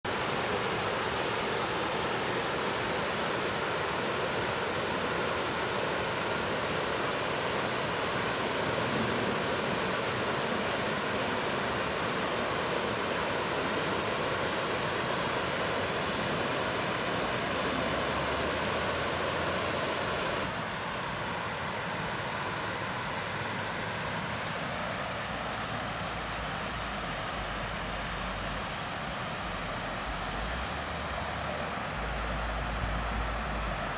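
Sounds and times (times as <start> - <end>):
water tumbling over waterfall: 0.0 - 33.9.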